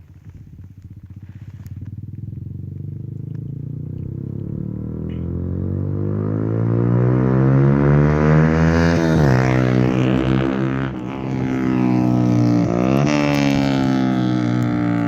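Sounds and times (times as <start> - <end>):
motorcycle engine revving up: 0.9 - 15.0.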